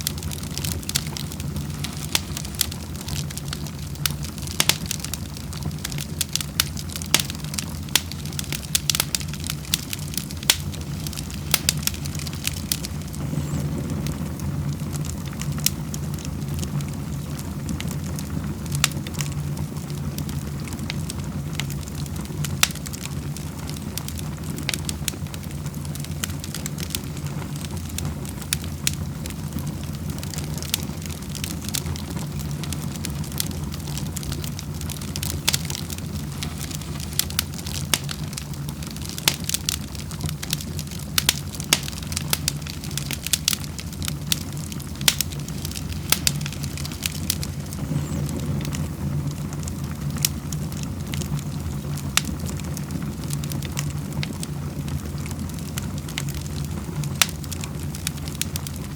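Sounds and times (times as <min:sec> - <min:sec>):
low steady rumble: 0:00.0 - 0:58.9
wood fire crackling and popping: 0:00.0 - 0:58.9.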